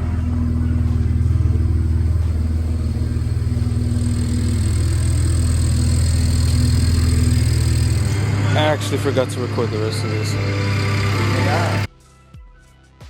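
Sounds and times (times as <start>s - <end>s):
car engine idling: 0.0s - 11.9s
faint high whine: 0.0s - 11.9s.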